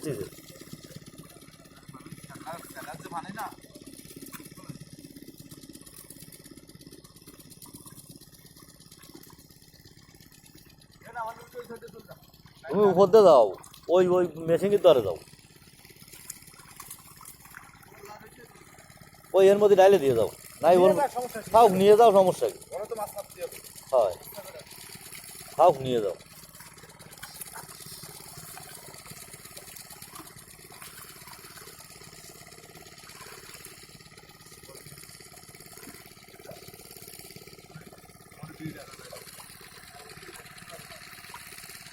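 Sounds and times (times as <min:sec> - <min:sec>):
water pump engine chugging: 0:00.0 - 0:41.9.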